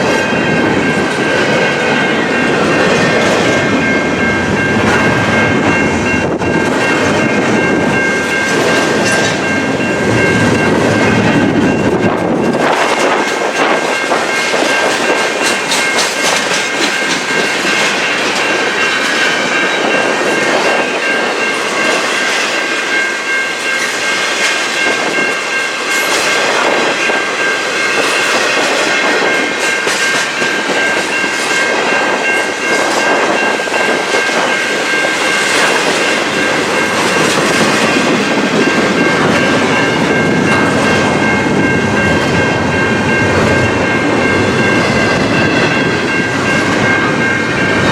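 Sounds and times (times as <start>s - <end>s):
wheels clicking over rail joints: 0.0s - 22.4s, 26.0s - 47.9s
freight train rumbling past: 0.0s - 47.9s.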